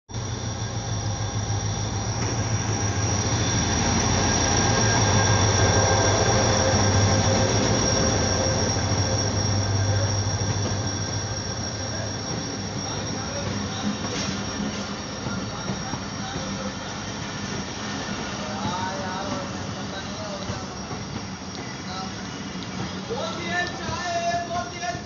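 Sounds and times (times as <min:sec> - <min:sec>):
train rumbling: 0:00.1 - 0:25.0
high-pitched train squeal: 0:00.2 - 0:25.0.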